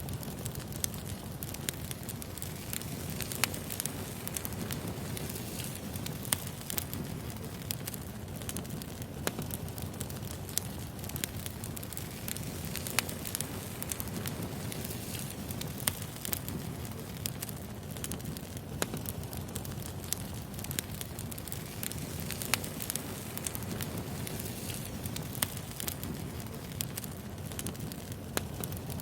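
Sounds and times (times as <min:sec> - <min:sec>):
firewood crackling and popping: 0:00.0 - 0:29.0
wood fire low rumble: 0:00.0 - 0:29.0.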